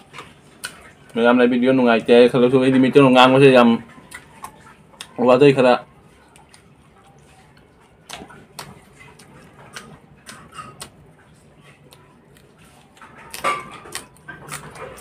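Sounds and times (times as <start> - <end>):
person chewing food: 0.0 - 1.2, 3.6 - 15.0.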